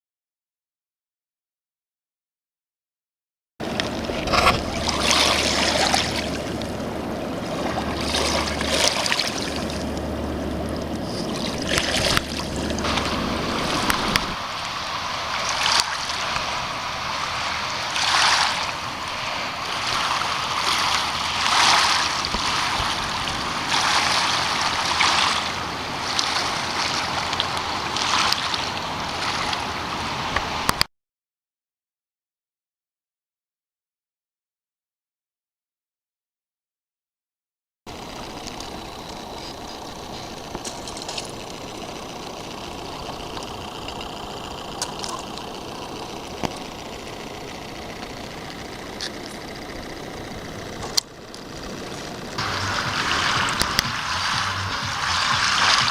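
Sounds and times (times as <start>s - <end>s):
low steady hum: 3.6s - 30.8s, 37.9s - 55.9s
river water washing against bank: 3.6s - 30.8s, 37.9s - 55.9s.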